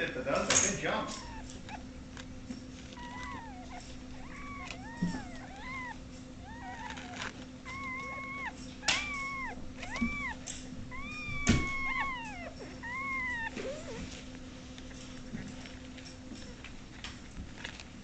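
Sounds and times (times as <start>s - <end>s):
kittens mewing: 0.6s - 16.7s.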